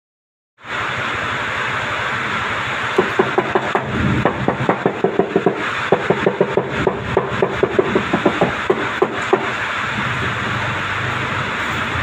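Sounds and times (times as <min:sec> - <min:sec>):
steady hiss: 0:00.6 - 0:12.0.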